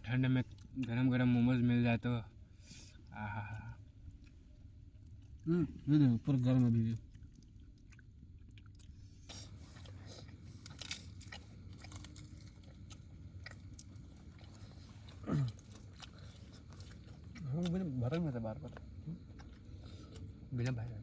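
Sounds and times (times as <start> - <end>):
crunching and chewing of crispy food: 3.0 - 21.0.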